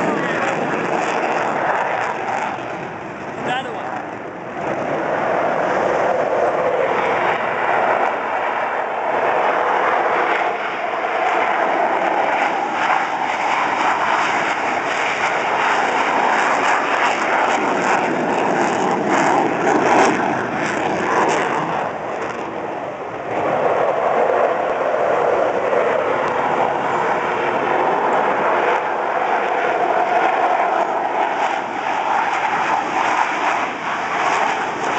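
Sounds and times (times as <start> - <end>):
distant jet engine rumble: 0.0 - 34.9.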